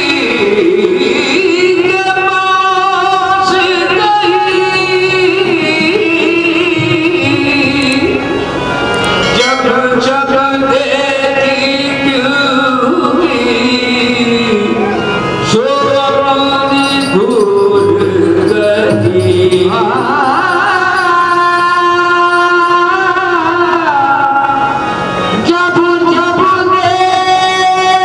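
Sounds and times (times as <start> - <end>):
men singing: 0.0 - 8.3, 9.4 - 28.0
harmonium: 0.0 - 28.0.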